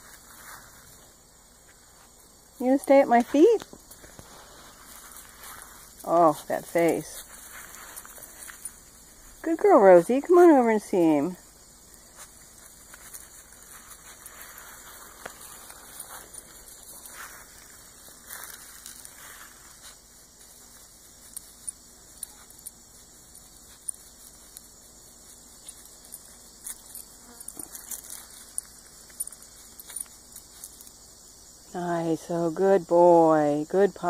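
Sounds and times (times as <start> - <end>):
puppy rustling through grass: 0.0 - 31.0
insects chirping: 0.0 - 34.0.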